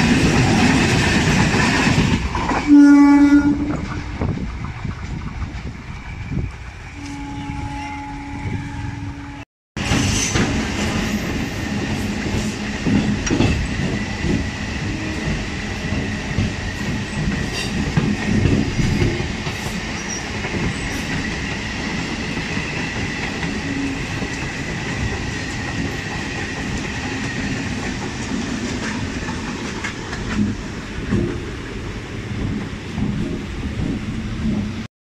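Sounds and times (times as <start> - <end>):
train passing on track: 0.0 - 34.9.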